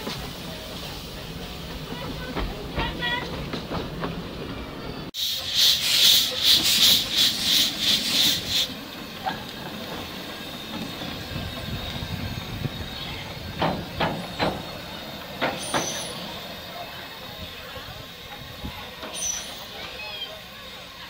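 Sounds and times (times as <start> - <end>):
steam hissing from cylinders: 0.0 - 3.2, 5.1 - 21.0
steam locomotive chuffing: 0.0 - 21.0.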